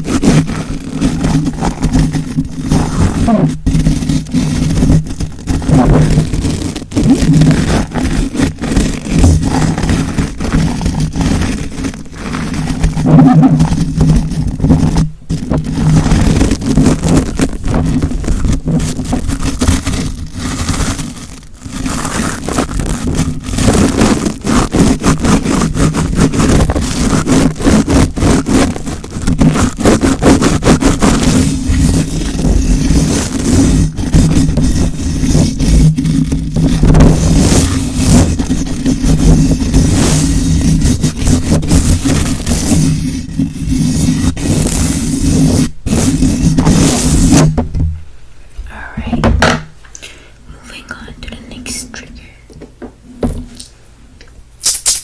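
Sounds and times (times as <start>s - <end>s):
scratching and rubbing on microphone: 0.0s - 47.9s, 48.6s - 49.5s, 50.8s - 53.8s.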